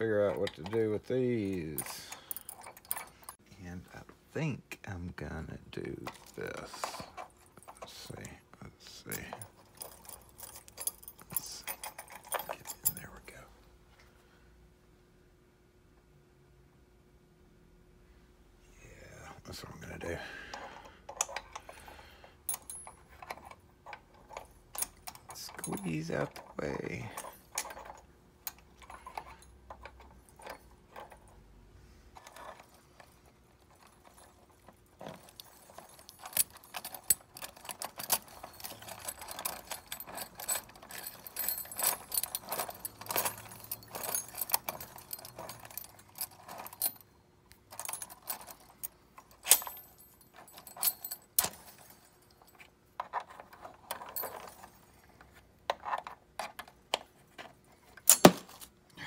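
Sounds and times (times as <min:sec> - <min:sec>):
keys jangling and clicking: 0:00.0 - 0:03.4, 0:06.1 - 0:13.4, 0:20.1 - 0:31.5, 0:32.2 - 0:59.0.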